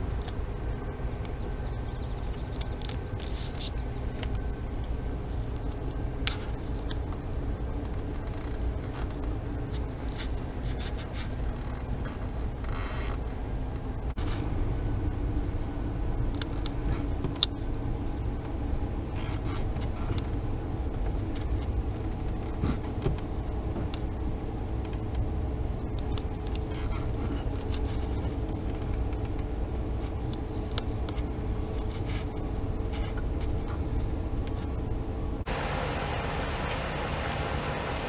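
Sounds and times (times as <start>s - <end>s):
car cabin engine and road rumble: 0.0s - 38.0s.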